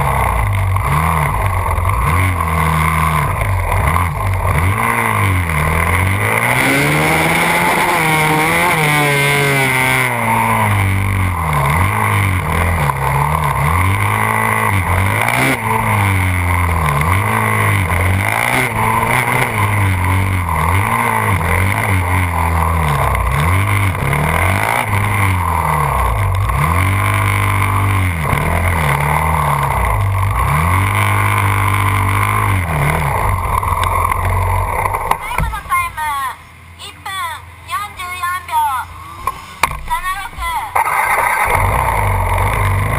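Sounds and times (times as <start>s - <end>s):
motorcycle engine revving: 0.0s - 35.8s, 40.7s - 42.9s.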